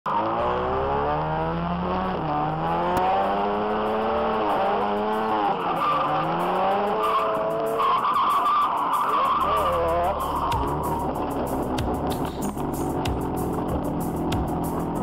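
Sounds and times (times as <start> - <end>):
car engine revving: 0.1 - 15.0
tires skidding on tarmac: 0.1 - 15.0.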